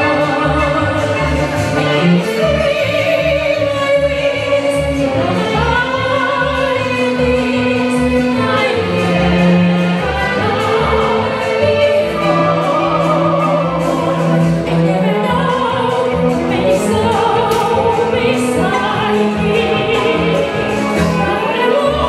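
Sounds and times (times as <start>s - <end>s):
soprano singing: 0.0s - 22.0s.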